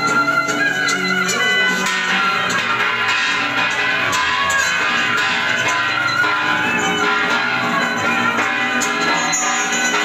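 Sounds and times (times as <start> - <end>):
held melodic notes: 0.0 - 10.0
percussion strike: 0.0 - 10.0.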